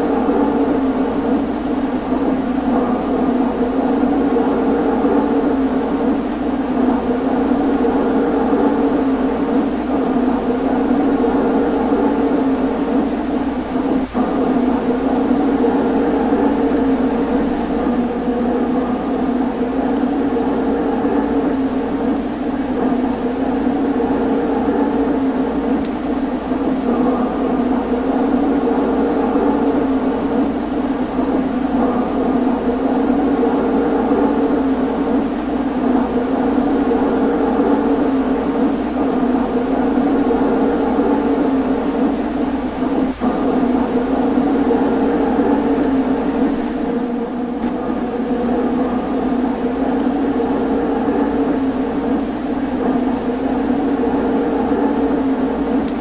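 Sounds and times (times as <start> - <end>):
model train motors humming: 0.0 - 56.0.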